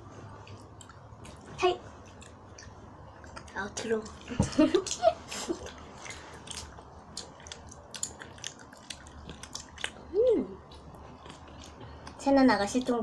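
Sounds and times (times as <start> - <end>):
chewing gummy candy: 0.3 - 13.0.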